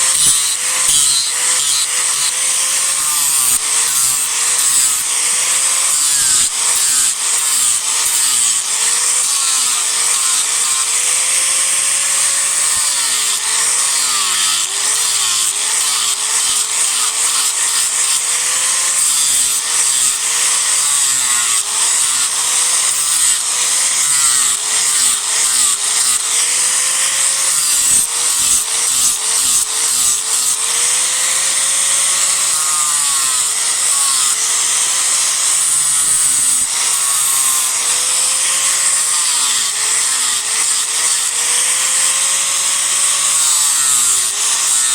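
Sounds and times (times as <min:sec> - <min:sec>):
disc grinder cutting wood: 0:00.0 - 0:44.9.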